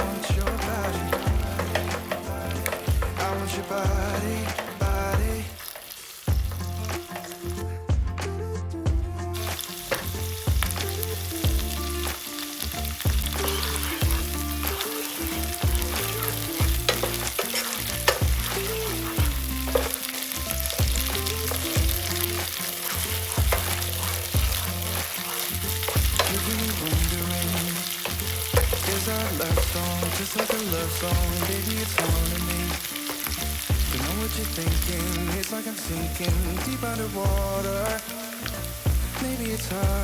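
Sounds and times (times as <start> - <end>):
food sizzling in a pan: 0.0 - 7.8, 9.3 - 40.0
stirring in a pan: 0.0 - 7.8, 9.2 - 39.9.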